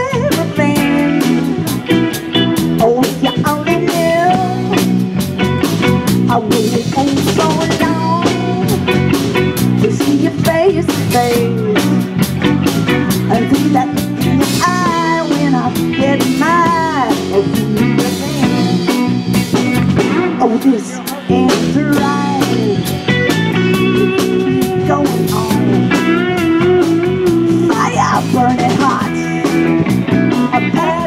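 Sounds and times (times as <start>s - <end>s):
live blues band playing: 0.0s - 31.0s
sliding guitar lead line: 0.0s - 31.0s.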